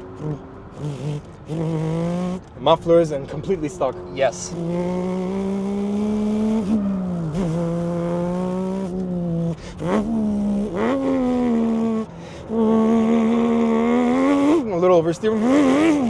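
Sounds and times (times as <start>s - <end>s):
man imitating engine with mouth: 0.0s - 2.5s, 4.5s - 14.6s, 15.3s - 16.0s.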